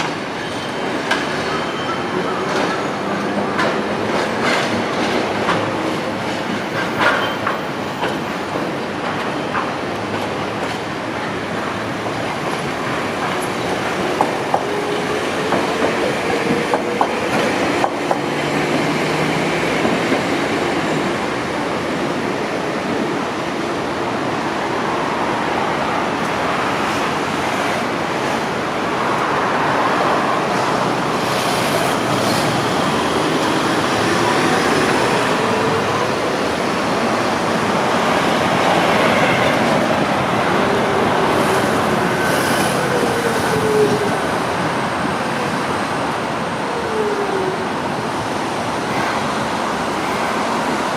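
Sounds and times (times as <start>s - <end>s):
streetcars and buses passing: 0.0s - 50.9s.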